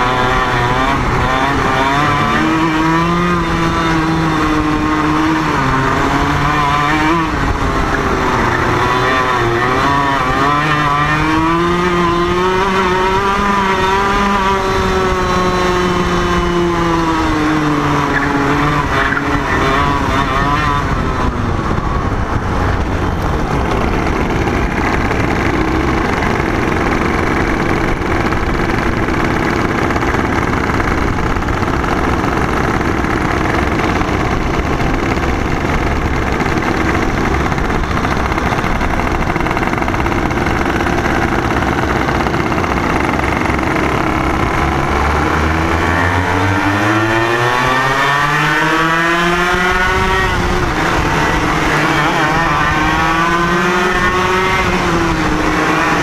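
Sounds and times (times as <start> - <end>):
kart engine at racing speed: 0.0 - 56.0
steady rushing noise: 0.0 - 56.0.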